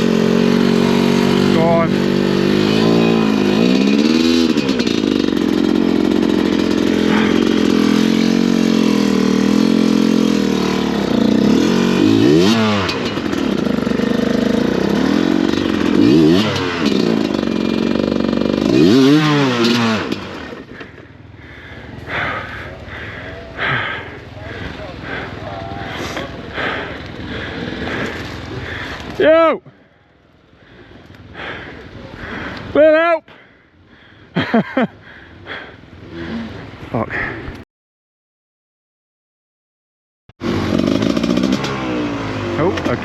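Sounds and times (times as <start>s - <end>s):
dirt bike engine revving: 0.0s - 36.8s, 40.4s - 43.0s.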